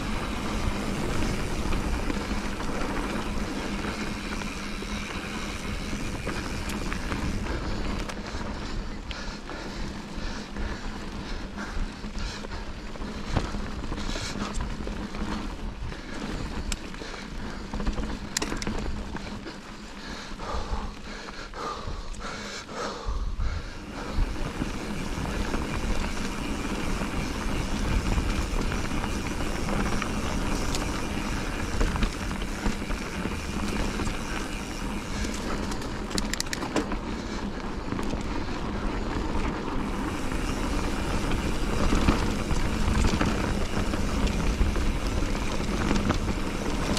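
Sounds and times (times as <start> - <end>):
bike tyres rolling on dirt: 0.0 - 46.9.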